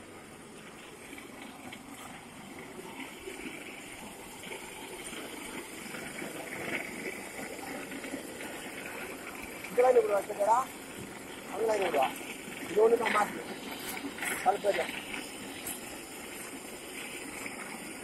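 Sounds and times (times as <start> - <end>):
concrete floor grinder running: 1.2 - 18.0.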